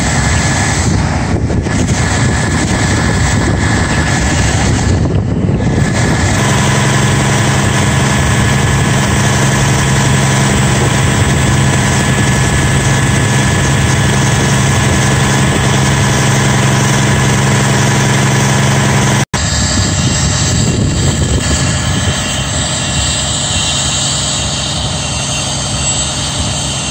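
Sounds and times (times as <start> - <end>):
fire truck engines humming: 0.0 - 26.9
rough hissy engine: 0.0 - 26.9.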